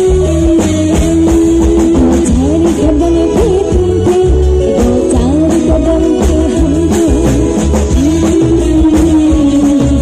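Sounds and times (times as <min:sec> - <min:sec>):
bass guitar: 0:00.0 - 0:10.0
electric guitar: 0:00.0 - 0:10.0
steady drum beat: 0:00.0 - 0:10.0
woman singing: 0:01.3 - 0:10.0.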